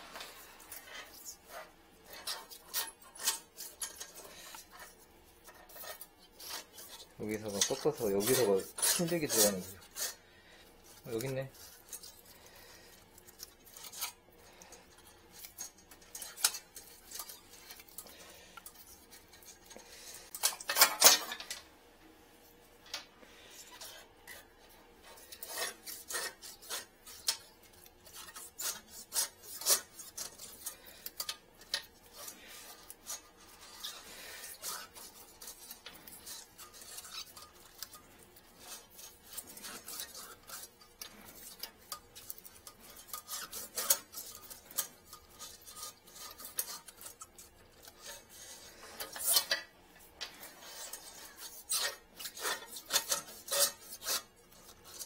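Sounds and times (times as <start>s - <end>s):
wire scraping in toilet trap: 0.0s - 10.2s, 13.2s - 21.6s, 23.6s - 55.0s.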